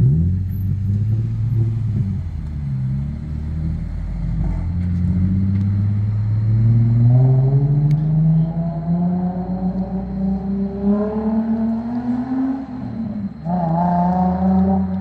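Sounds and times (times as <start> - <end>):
car exhaust rumble: 0.0 - 15.0.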